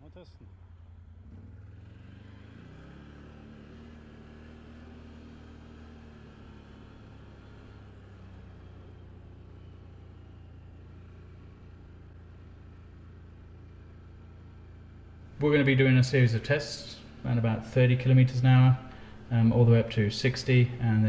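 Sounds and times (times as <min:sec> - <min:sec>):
atv engine pulling away: 0:00.0 - 0:21.0.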